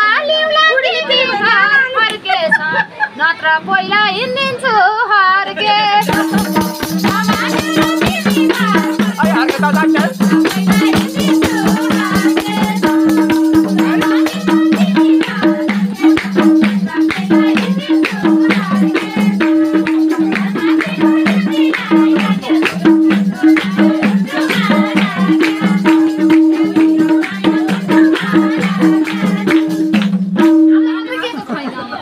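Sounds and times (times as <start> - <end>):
woman singing: 0.0 - 30.1.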